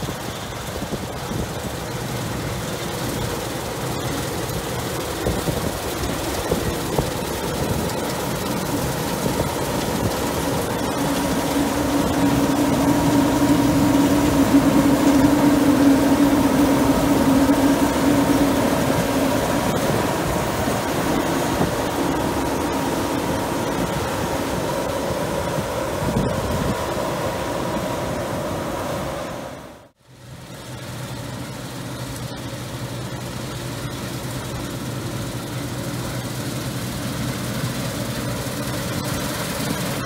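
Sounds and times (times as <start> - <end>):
combine harvester droning: 0.0 - 40.0.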